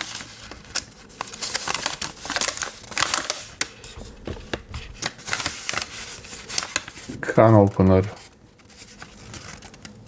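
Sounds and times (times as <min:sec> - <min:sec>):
paper crinkling and rustling: 0:00.0 - 0:10.0.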